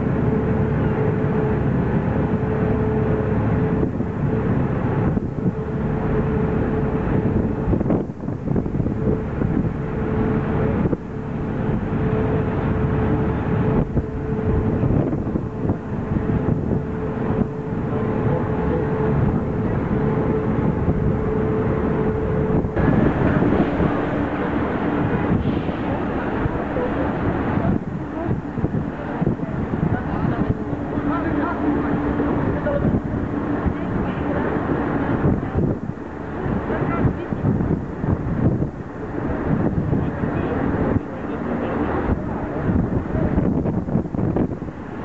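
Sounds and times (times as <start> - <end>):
ship engines humming: 0.0 - 45.0
wind buffeting microphone: 0.0 - 45.0.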